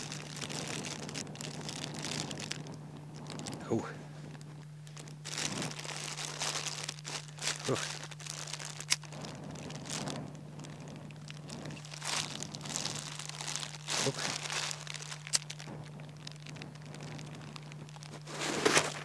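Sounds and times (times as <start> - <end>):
plastic bag crinkling: 0.0 - 19.0
steady low hum: 0.0 - 19.0.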